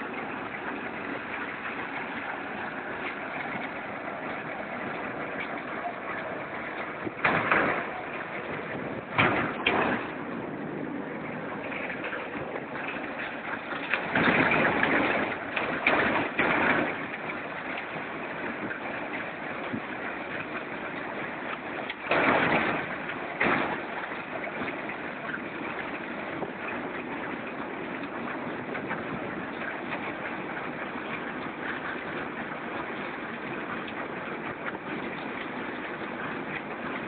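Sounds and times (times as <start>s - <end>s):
concrete mixer running: 0.0s - 37.0s.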